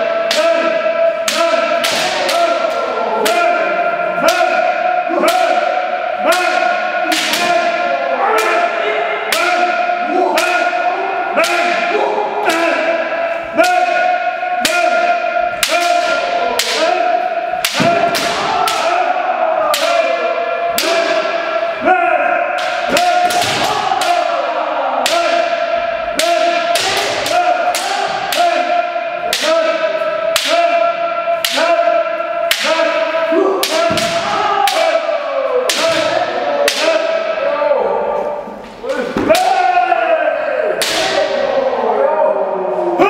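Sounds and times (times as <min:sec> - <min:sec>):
fencers shouting: 0:00.0 - 0:43.0.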